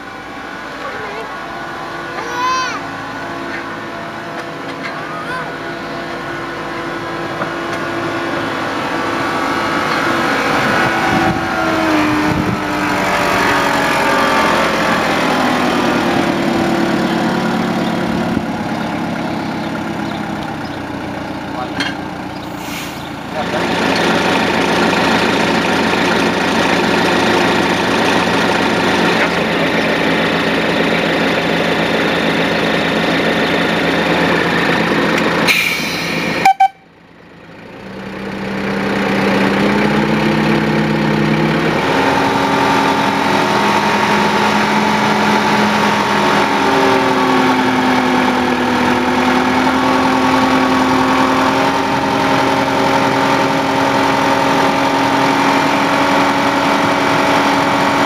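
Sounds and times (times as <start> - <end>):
locomotive engine humming: 0.0 - 58.0.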